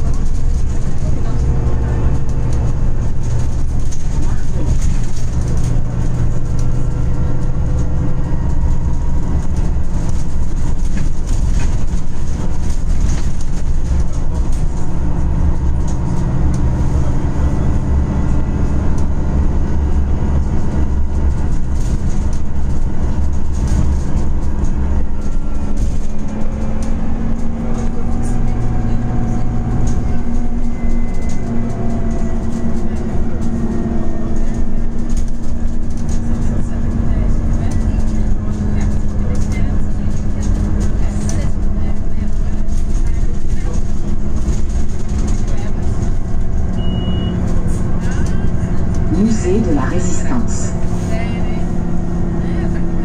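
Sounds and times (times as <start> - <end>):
bus engine and road drone: 0.0 - 53.0.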